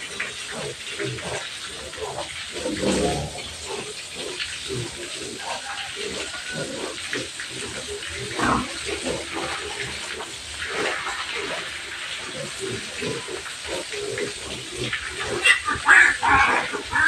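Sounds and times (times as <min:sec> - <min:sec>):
pigs grunting: 0:00.0 - 0:17.0
pigs squealing: 0:00.0 - 0:17.0
water spraying from hose: 0:00.0 - 0:17.0.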